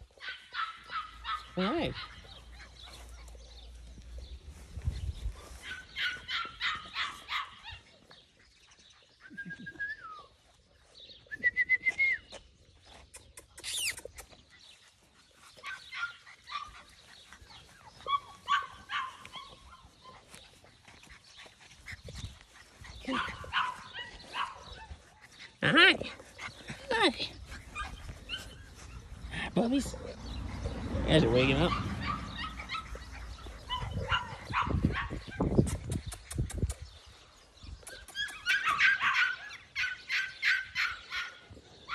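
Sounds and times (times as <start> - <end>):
birds chirping: 0.0 - 41.9
puppies yipping and whining: 0.0 - 41.9.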